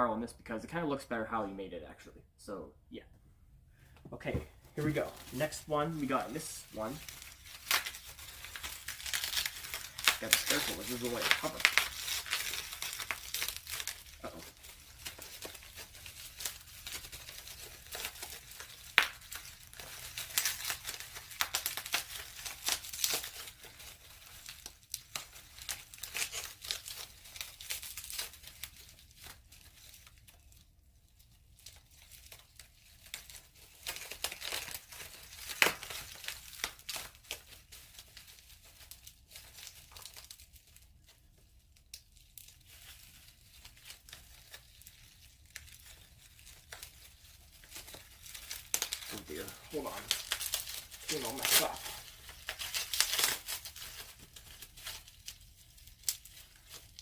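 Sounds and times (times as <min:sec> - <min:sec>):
paper crinkling and rustling: 0:04.3 - 0:57.0.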